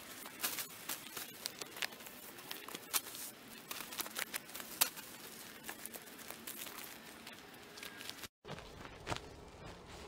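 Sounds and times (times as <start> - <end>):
spruce boughs rustling and crackling: 0.0 - 10.0.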